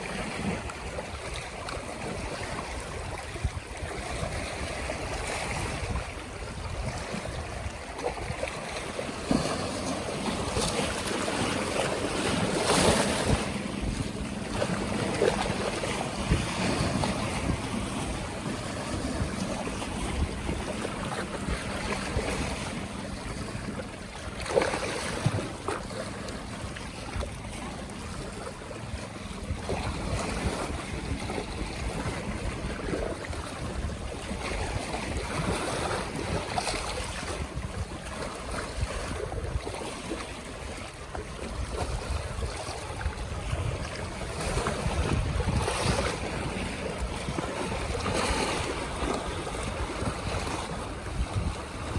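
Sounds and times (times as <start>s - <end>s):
waves splashing: 0.0s - 51.9s
wind buffeting microphone: 0.0s - 51.9s.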